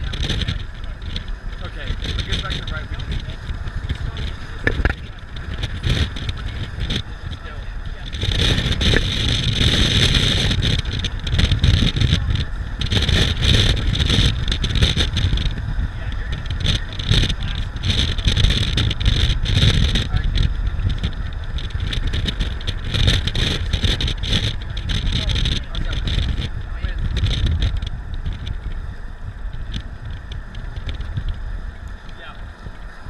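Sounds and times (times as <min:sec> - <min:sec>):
low road rumble: 0:00.0 - 0:33.0.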